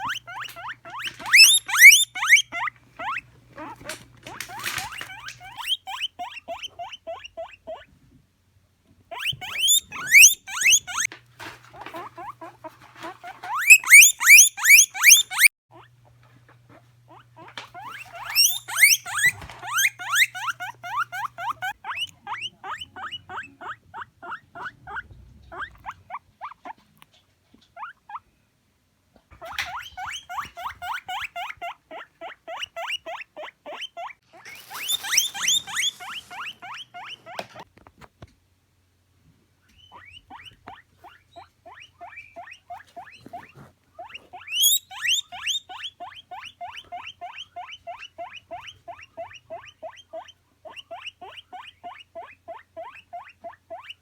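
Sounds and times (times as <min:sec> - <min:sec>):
guinea pig wheeking: 0:00.0 - 0:08.0, 0:09.1 - 0:28.3, 0:29.3 - 0:38.2, 0:39.6 - 0:54.0.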